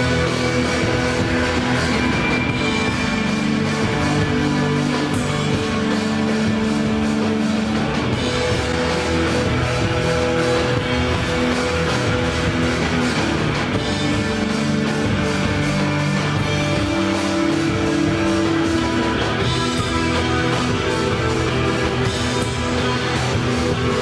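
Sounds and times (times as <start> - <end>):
drum kit playing: 0.0 - 24.0
electric guitars sustained notes: 0.0 - 24.0.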